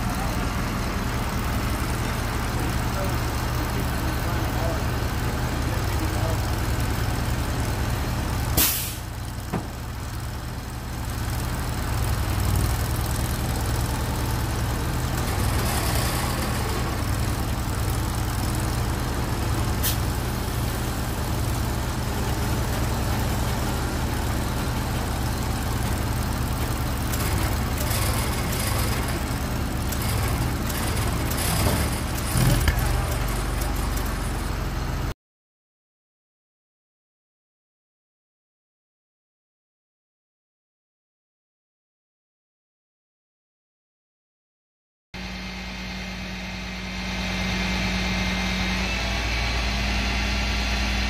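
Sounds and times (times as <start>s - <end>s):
truck engine droning: 0.0s - 35.2s, 45.2s - 51.0s.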